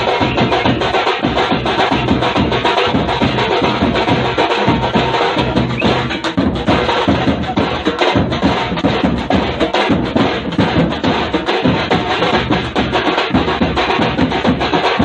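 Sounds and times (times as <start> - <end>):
music with fast dense drumming: 0.0 - 15.0.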